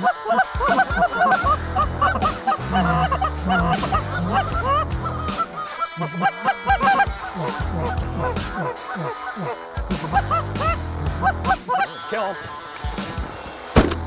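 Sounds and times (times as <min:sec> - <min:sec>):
goose call honks and clucks: 0:00.0 - 0:12.2.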